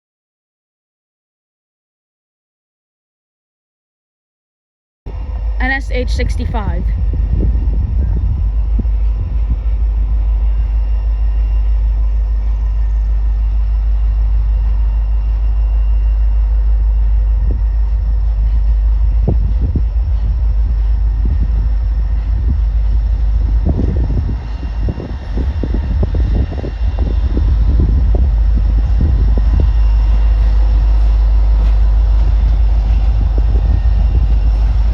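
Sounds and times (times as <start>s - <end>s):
faint steady whine: 5.1s - 34.9s
freight train rumbling: 5.1s - 34.9s.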